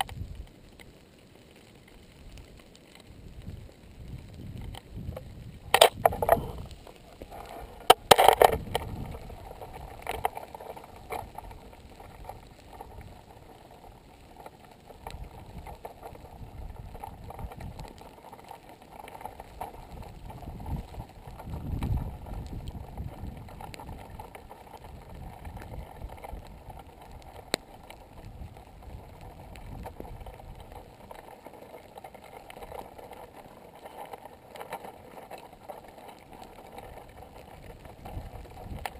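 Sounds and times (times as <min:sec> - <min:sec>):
lava crust crackling: 0:00.0 - 0:38.9.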